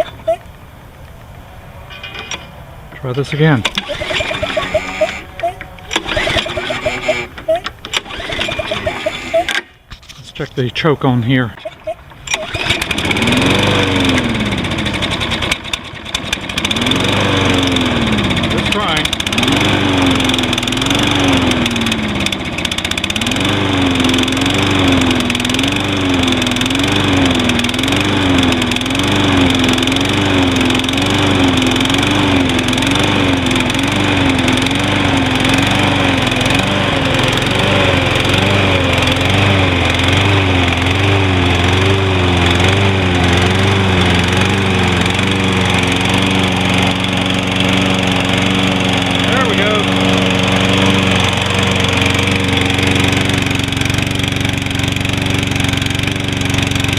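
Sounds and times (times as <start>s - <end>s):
lawn mower engine running: 0.0s - 56.9s.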